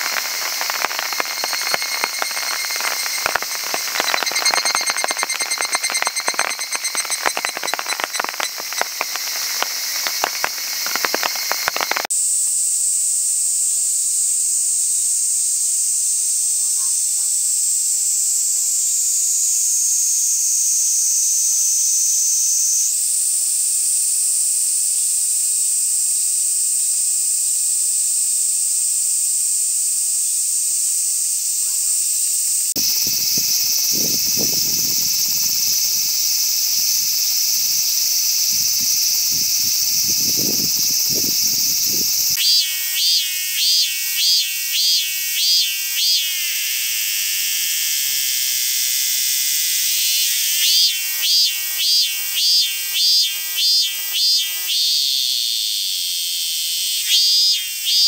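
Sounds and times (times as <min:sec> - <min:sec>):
cicada high-pitched buzz: 0:00.0 - 0:58.0
cicada pulsing calls: 0:00.0 - 0:58.0
cicada sizzling hiss: 0:00.0 - 0:58.0.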